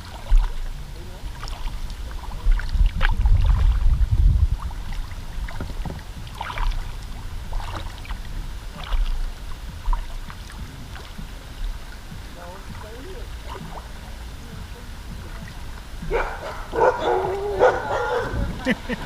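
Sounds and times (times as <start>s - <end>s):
paddle splashing water: 0.0s - 19.0s
wind rumble on microphone: 0.0s - 19.0s.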